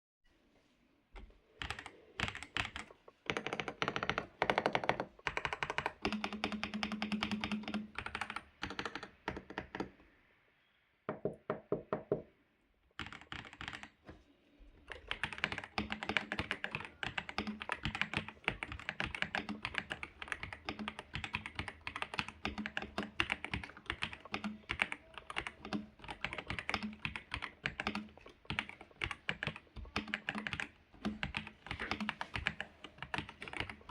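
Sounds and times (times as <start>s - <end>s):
mechanical keyboard typing: 1.2s - 10.0s, 13.0s - 14.0s, 14.9s - 33.9s.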